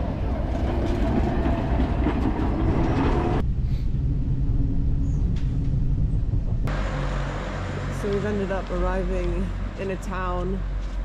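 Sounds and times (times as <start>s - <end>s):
vehicle rumble from inside: 0.0s - 11.0s.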